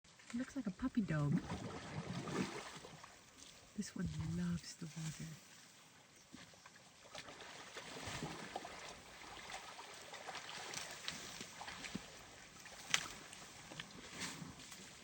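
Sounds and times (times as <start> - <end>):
elephant splashing in mud water: 1.1 - 6.0, 6.6 - 15.0.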